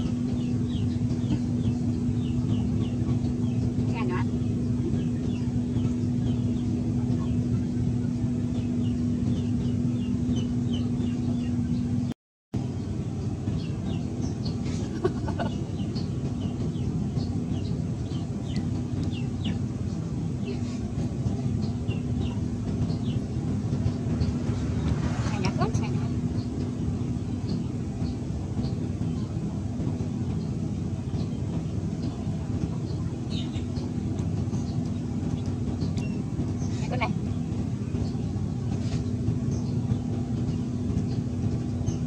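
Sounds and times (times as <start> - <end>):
birds chirping: 0.0 - 42.0
steady low hum: 0.0 - 42.0.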